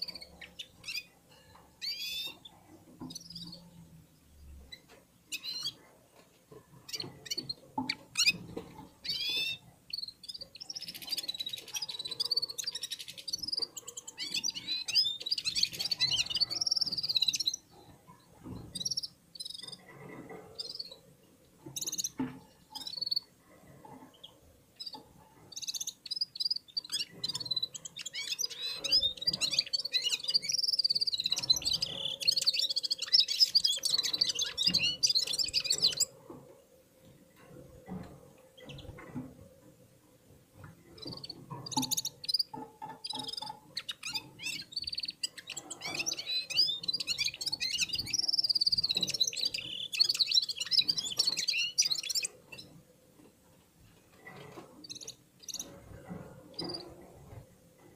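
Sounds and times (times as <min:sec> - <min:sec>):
birds twittering song: 0:00.0 - 0:53.4, 0:54.0 - 0:57.9.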